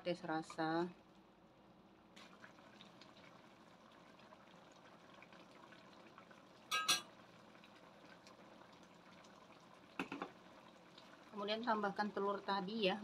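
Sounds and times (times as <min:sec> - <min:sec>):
tomatoes simmering and bubbling: 0:00.0 - 0:13.0.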